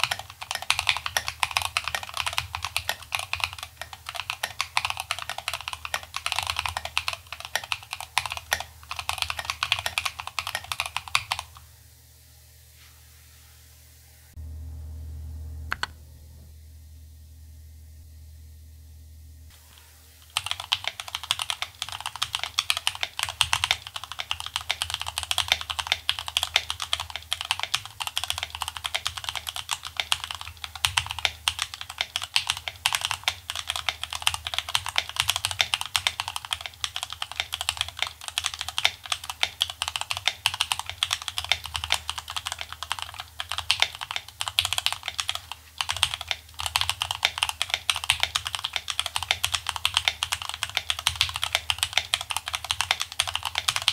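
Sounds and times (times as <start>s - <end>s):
fast mechanical keyboard typing: 0.0s - 11.6s, 20.3s - 53.9s.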